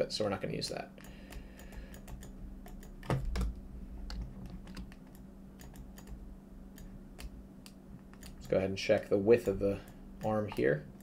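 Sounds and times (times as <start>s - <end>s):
faint low hum: 0.0s - 11.0s
keyboard keys clicking: 1.3s - 6.2s, 6.8s - 11.0s.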